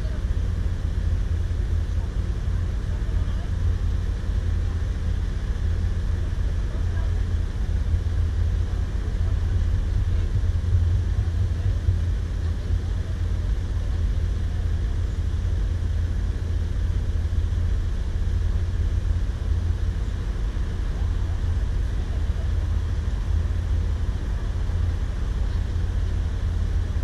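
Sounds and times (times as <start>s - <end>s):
car driving rumble: 0.0s - 27.0s.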